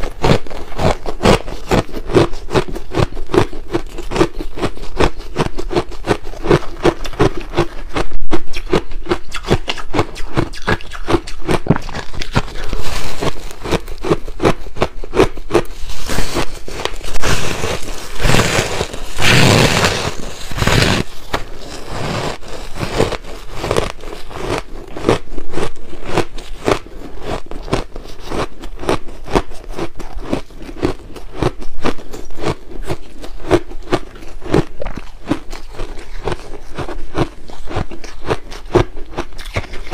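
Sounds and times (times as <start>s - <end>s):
chewing and crunching ice: 0.0s - 39.9s.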